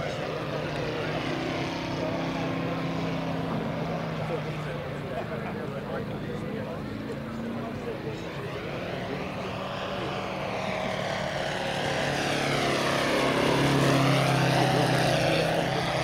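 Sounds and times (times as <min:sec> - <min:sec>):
model aircraft engine flying past: 0:00.0 - 0:16.0.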